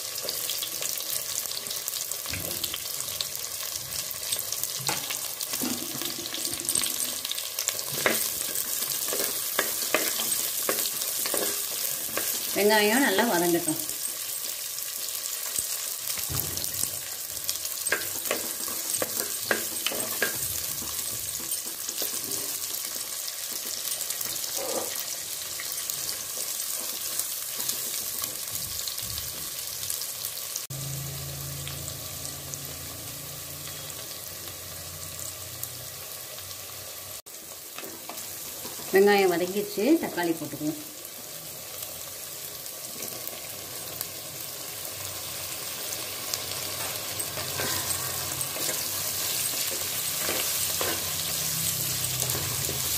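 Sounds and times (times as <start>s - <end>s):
shallots sizzling in hot oil: 0.0s - 52.9s.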